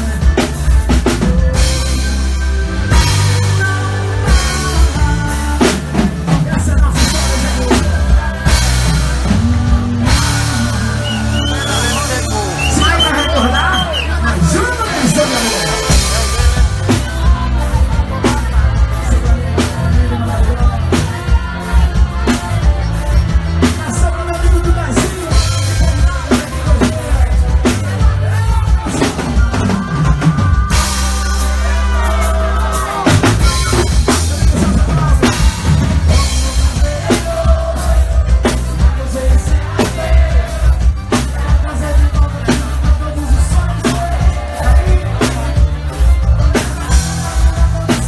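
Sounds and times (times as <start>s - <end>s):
live band music: 0.0s - 48.0s.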